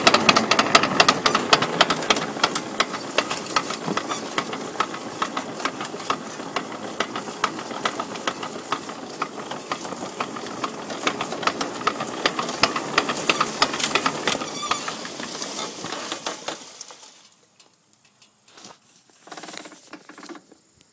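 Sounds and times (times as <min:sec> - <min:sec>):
engine running: 0:00.0 - 0:17.3.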